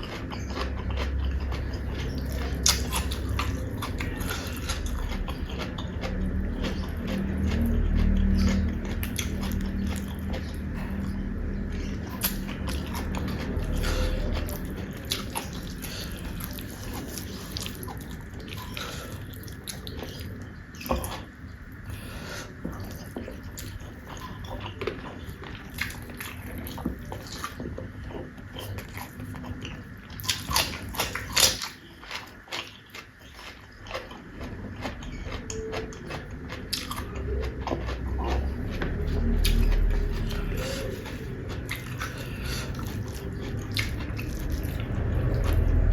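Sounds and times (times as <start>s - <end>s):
chewing and mouth smacks: 0.0s - 45.9s
steady low hum: 0.0s - 45.9s.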